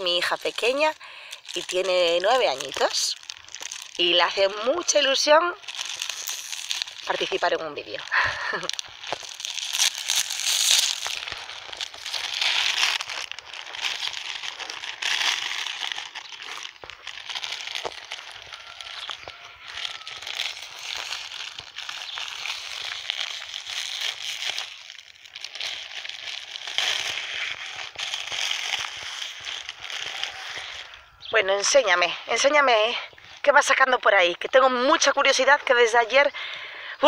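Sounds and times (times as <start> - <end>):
plastic wrap crinkling: 0.0 - 31.3.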